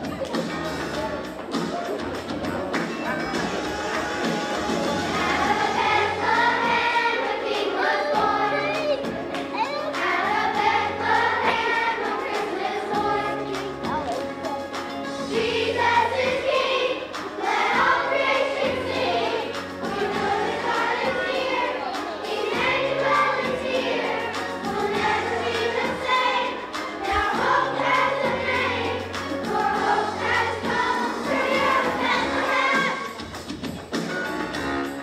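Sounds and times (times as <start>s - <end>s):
children's choir singing: 0.0s - 33.4s
instrumental accompaniment: 0.0s - 35.0s.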